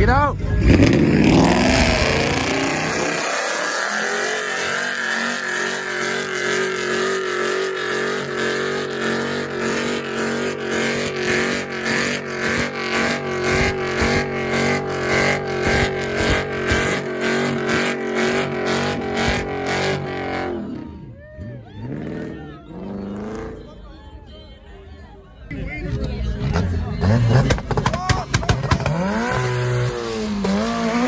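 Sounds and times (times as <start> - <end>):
car engine hitting rev limiter: 0.0 - 20.8, 25.5 - 31.0.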